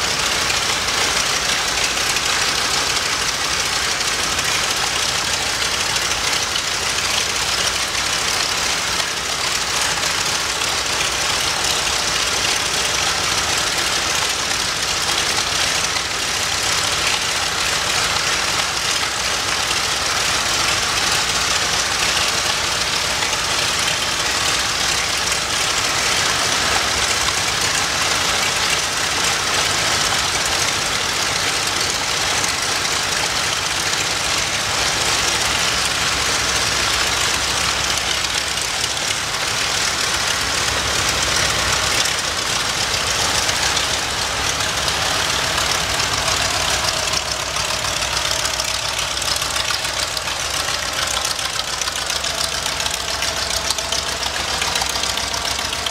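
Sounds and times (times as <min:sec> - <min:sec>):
radial aircraft engine idling: 0:00.0 - 0:55.9.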